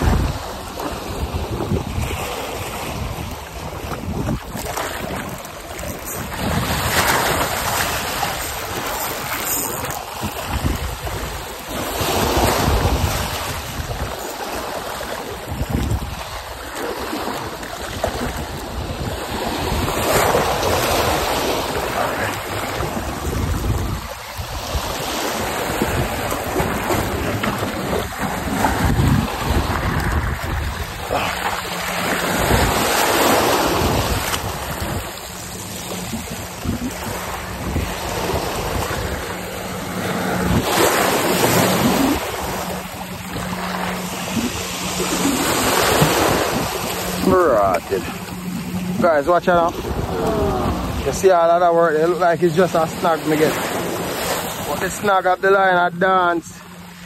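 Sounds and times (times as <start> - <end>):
wind buffeting microphone: 0.0 - 14.3, 15.3 - 16.5, 17.2 - 51.4
small waves lapping against rocks: 0.0 - 57.0.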